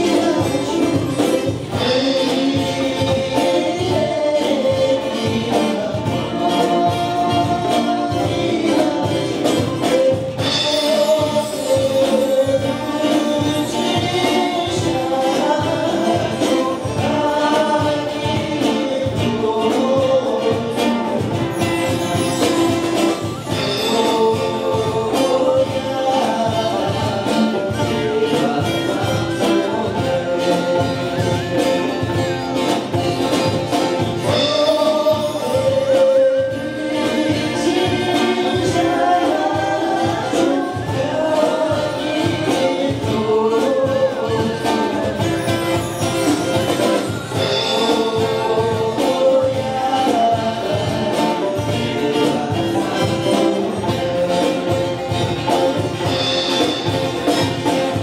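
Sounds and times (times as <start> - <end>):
man singing: 0.0 - 58.0
percussion beat: 0.0 - 58.0.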